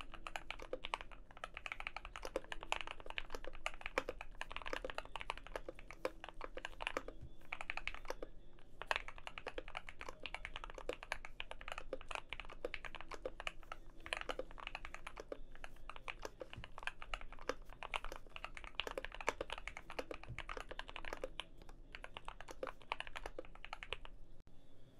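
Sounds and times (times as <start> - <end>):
fast typing on mechanical keyboard: 0.0 - 24.2.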